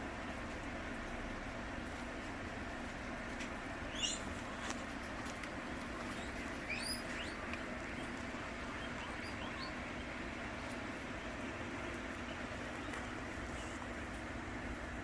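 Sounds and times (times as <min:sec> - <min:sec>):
cooler and fans whooshing: 0:00.0 - 0:15.0
guinea pigs squeaking: 0:03.0 - 0:15.0.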